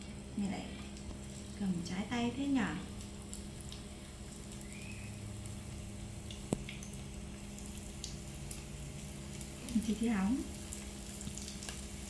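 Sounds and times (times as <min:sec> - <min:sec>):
food sizzling in oil: 0:01.0 - 0:12.0.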